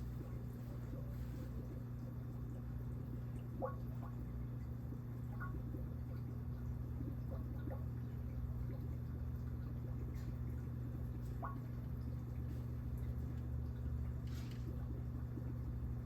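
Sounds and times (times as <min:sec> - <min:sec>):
aquarium equipment humming: 0:00.0 - 0:16.0
faint water dripping: 0:00.0 - 0:16.0.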